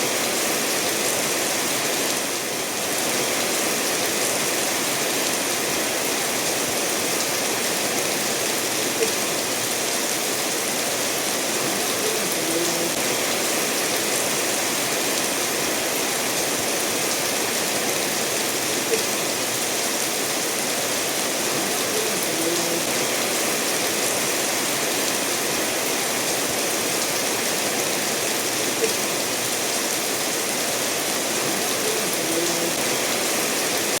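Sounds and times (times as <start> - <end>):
steady rain: 0.0 - 34.0
stream flowing over stones: 0.0 - 34.0.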